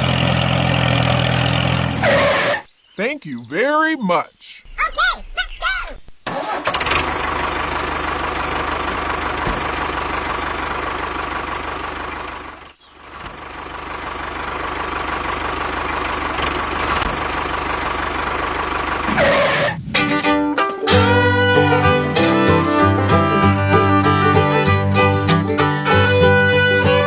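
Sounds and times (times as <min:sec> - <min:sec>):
tractor engine running: 0:00.0 - 0:03.9, 0:04.7 - 0:27.0.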